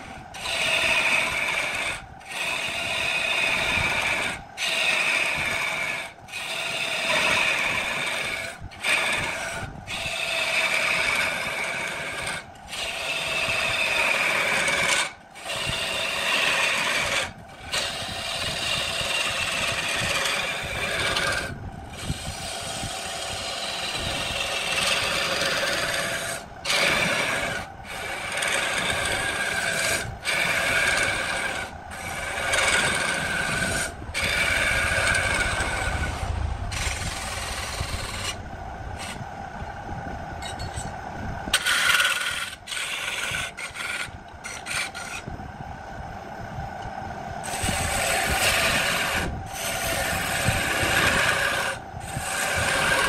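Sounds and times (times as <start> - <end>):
gouge scraping spinning wood: 0.0 - 39.8, 40.4 - 45.4, 47.4 - 53.0.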